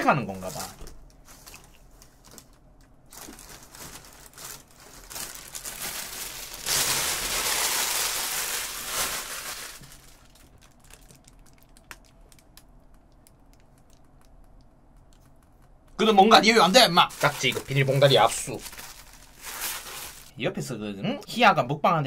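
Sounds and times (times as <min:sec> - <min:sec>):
plastic bag crinkling: 0:00.0 - 0:14.3, 0:16.4 - 0:20.4.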